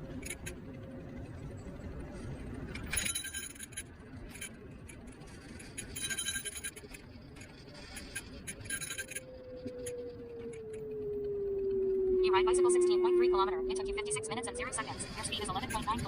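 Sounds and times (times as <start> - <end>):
road and wind rumble: 0.0 - 16.0.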